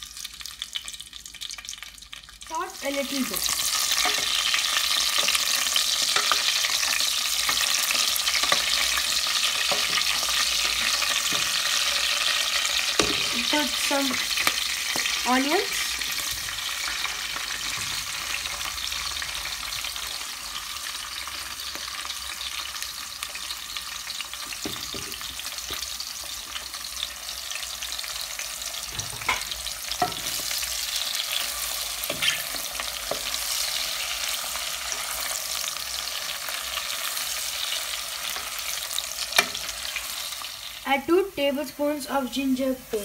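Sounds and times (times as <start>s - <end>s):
onions sizzling in hot oil: 0.0s - 43.0s.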